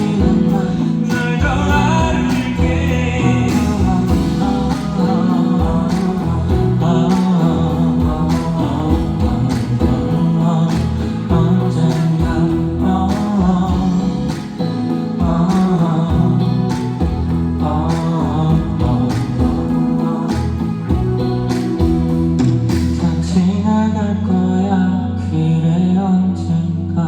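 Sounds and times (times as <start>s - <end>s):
steady drum beat: 0.0s - 23.3s
band playing pop ballad: 0.0s - 27.0s
guitar: 0.0s - 27.0s
man singing: 0.0s - 27.0s.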